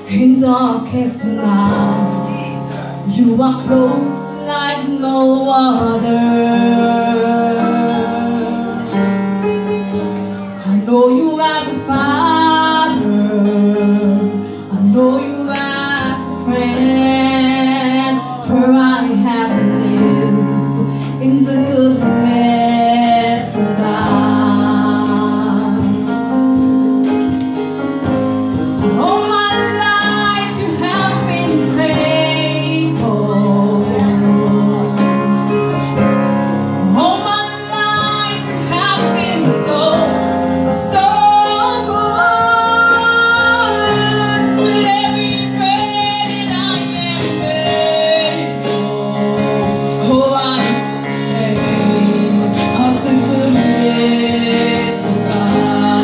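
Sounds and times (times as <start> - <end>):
woman singing over loudspeakers: 0.0 - 9.1, 10.6 - 26.1, 29.0 - 35.6, 36.5 - 56.0.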